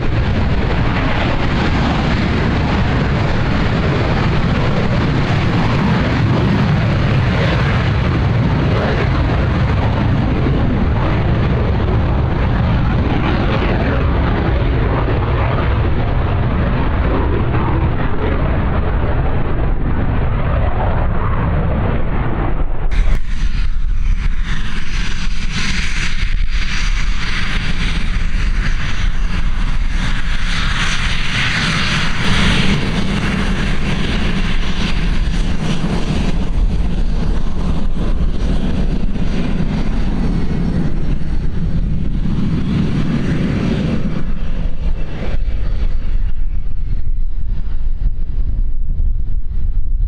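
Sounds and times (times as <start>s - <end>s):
jet engine whine and rumble: 0.0s - 50.0s.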